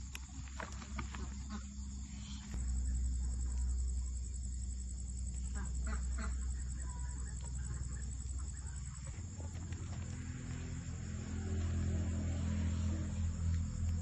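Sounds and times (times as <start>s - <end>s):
crickets chirping: 0.0s - 14.0s
low rumble: 1.7s - 14.0s.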